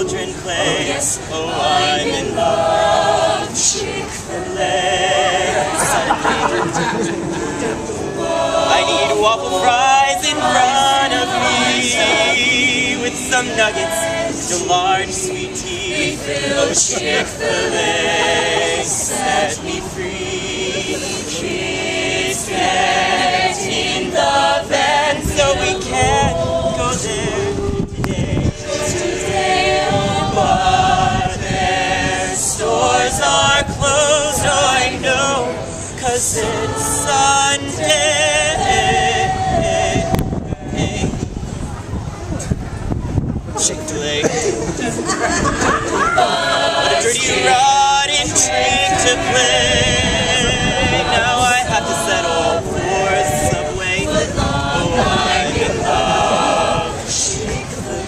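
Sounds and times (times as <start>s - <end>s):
group singing a cappella: 0.0s - 41.6s, 43.6s - 58.0s.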